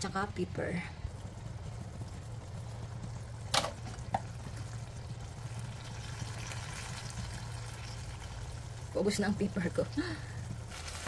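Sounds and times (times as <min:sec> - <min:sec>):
sauce simmering in a wok: 0:00.0 - 0:11.0
steady low hum: 0:00.0 - 0:11.0.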